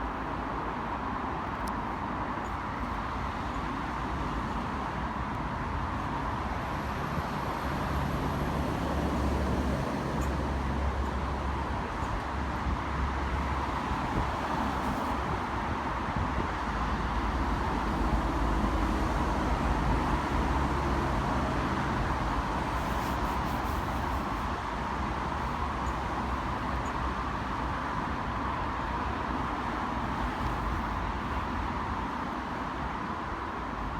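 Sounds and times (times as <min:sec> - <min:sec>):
diesel railcar rumble: 0:00.0 - 0:33.9
rail noise: 0:00.0 - 0:33.9.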